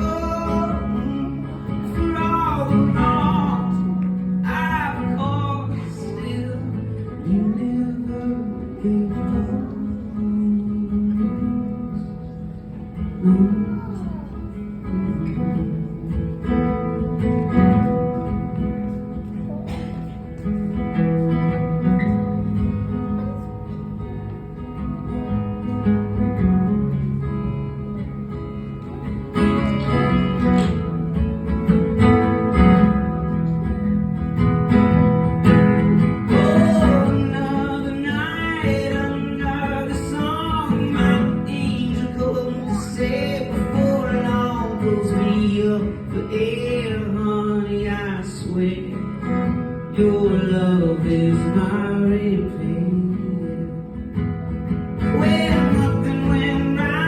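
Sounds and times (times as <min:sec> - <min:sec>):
acoustic guitar playing: 0:00.0 - 0:57.0.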